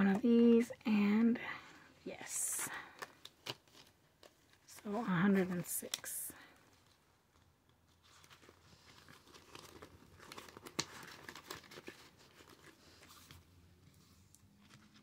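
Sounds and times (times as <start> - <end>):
paper rustling and crinkling: 2.4 - 15.0.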